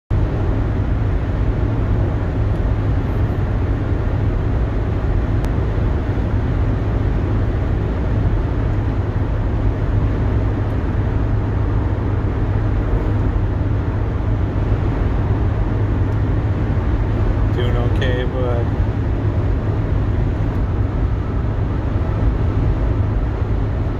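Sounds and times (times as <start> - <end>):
road noise: 0.1 - 23.9
vehicle engine rumble: 0.1 - 23.9.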